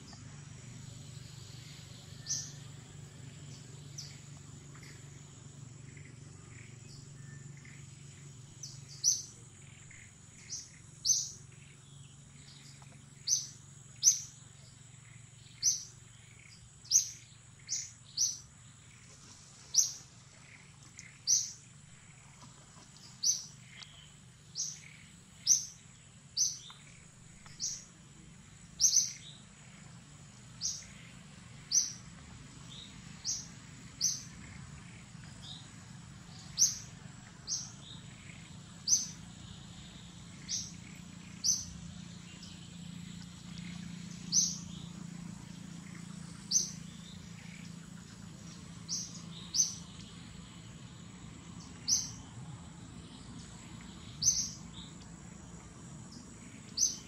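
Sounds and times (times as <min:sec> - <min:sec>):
faint low hum: 0:00.0 - 0:57.0
bird chirping: 0:00.1 - 0:05.2, 0:05.8 - 0:14.4, 0:15.0 - 0:19.1, 0:19.7 - 0:22.2, 0:23.0 - 0:27.9, 0:28.6 - 0:29.8, 0:30.6 - 0:32.0, 0:32.6 - 0:52.3, 0:53.0 - 0:55.1, 0:56.1 - 0:57.0.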